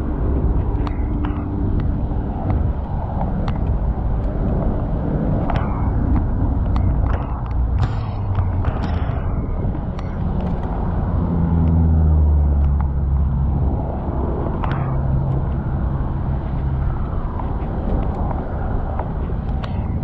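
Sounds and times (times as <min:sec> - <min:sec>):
low road rumble: 0:00.0 - 0:20.0
vehicle engine humming: 0:00.0 - 0:20.0.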